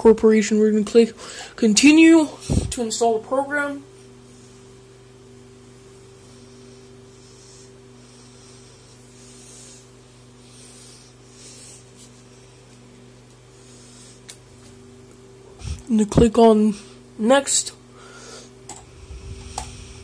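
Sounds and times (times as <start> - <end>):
computer electrical hum: 0.0 - 20.0.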